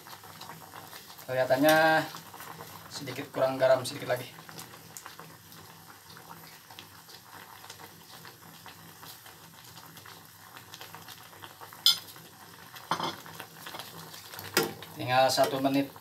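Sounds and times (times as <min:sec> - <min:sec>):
water boiling in saucepan: 0:00.0 - 0:16.0.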